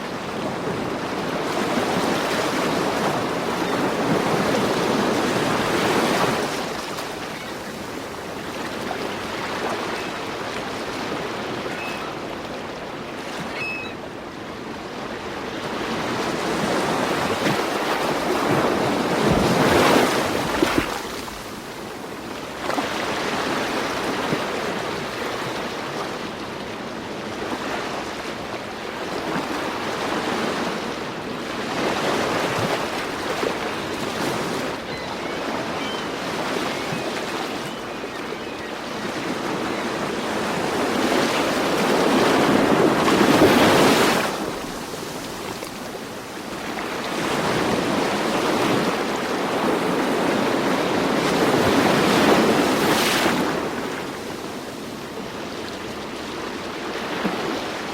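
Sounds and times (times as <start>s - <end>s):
ocean waves breaking: 0.0s - 26.3s, 29.0s - 57.9s.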